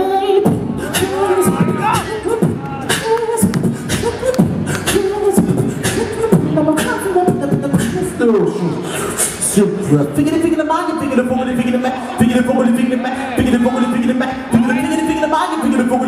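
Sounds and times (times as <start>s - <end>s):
beatboxing into microphone: 0.0s - 16.0s.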